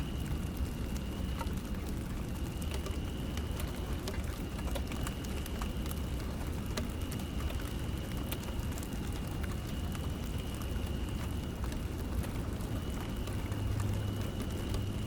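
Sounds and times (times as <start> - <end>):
light rain falling: 0.0 - 15.0
sharp rain drop ticks: 0.0 - 15.0.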